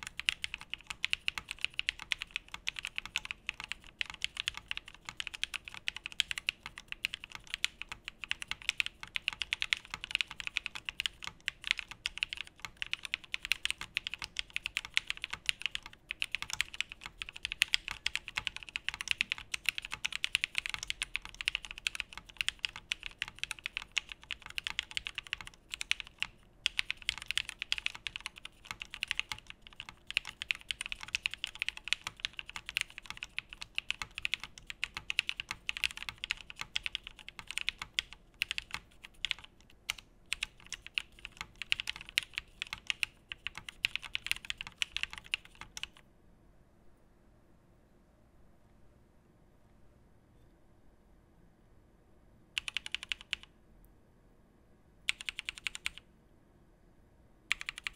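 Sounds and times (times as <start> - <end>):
fast typing on mechanical keyboard: 0.0 - 46.0, 52.6 - 53.5, 55.1 - 56.0, 57.5 - 57.9.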